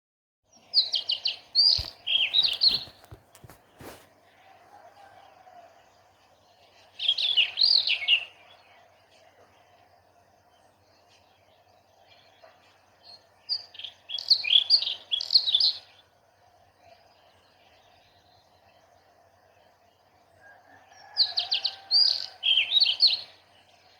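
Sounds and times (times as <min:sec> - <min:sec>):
songbird chirping: 0:00.5 - 0:23.9.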